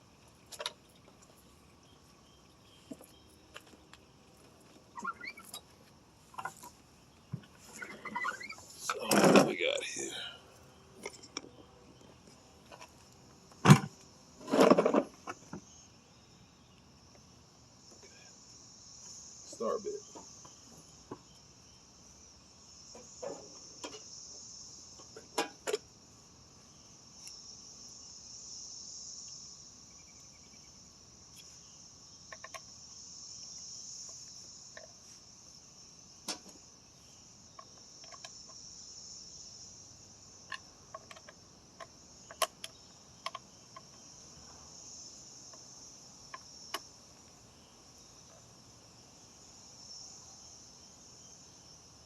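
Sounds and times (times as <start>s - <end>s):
insects chorus: 0.0s - 52.0s.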